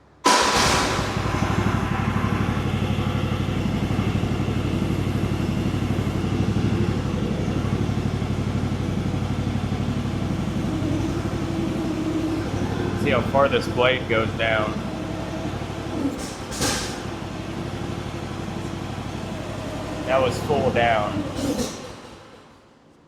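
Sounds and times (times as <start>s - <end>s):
excavator engine running: 0.2s - 22.9s.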